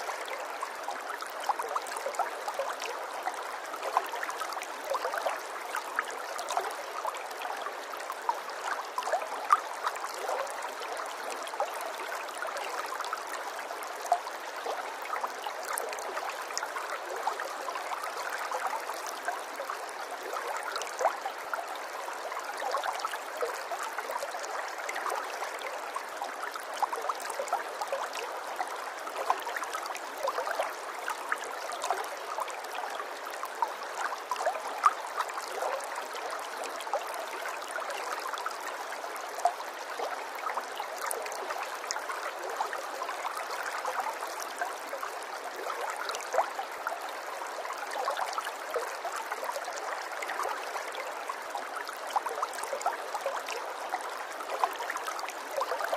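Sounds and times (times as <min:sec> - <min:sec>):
water trickling and gurgling: 0:00.0 - 0:55.9.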